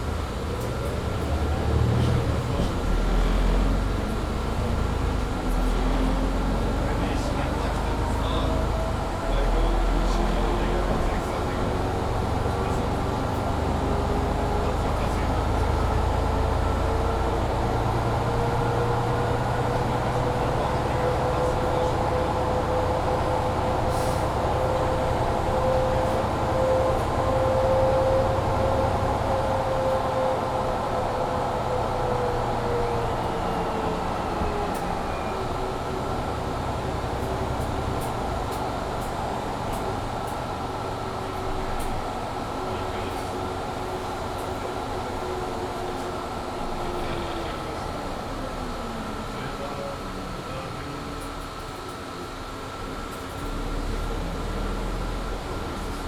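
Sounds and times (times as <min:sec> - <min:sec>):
bus engine rumble with whine: 0:00.0 - 0:56.0.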